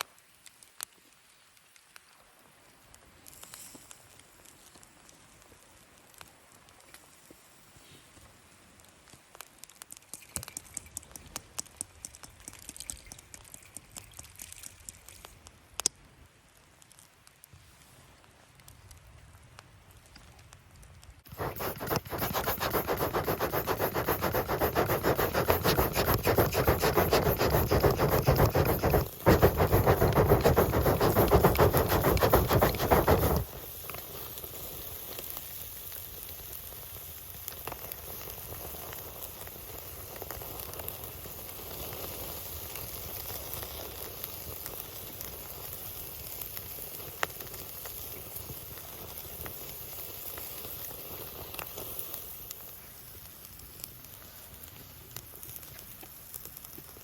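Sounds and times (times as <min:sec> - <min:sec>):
food sizzling over a campfire: 0:00.0 - 0:19.0, 0:19.9 - 0:57.0
fire hissing and popping: 0:00.1 - 0:57.0.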